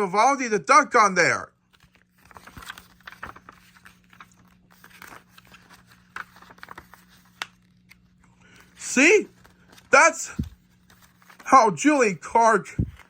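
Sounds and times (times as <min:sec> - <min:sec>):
paper booklet rustling: 0:01.6 - 0:13.0.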